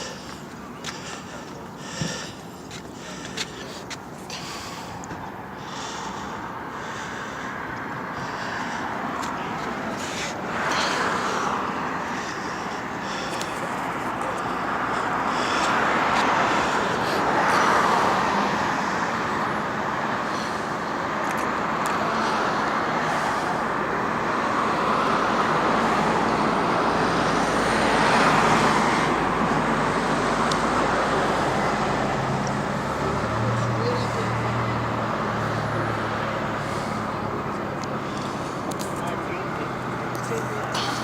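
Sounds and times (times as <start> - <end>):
road traffic noise: 0.0 - 41.0.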